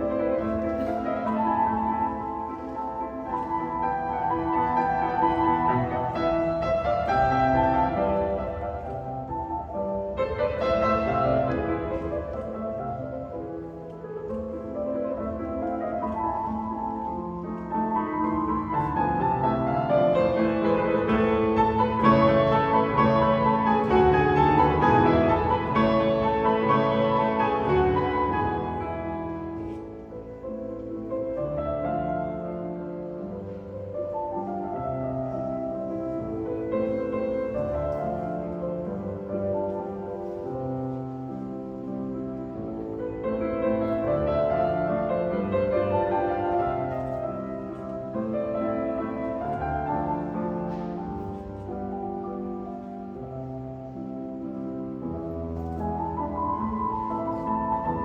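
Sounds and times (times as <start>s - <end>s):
cello: 0.0s - 58.0s
piano: 0.0s - 58.0s.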